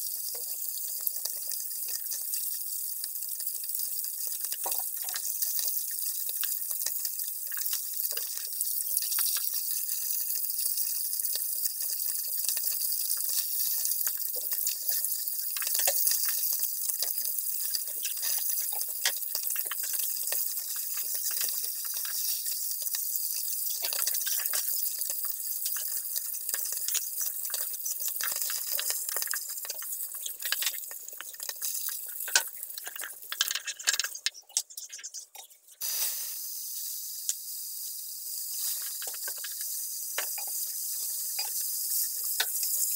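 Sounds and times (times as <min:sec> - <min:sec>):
fish frying in hot oil: 0:00.0 - 0:42.9.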